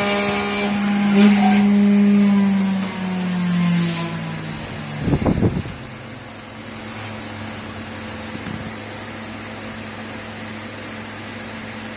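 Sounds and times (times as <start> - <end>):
cnc router engraving wood: 0.0 - 11.9.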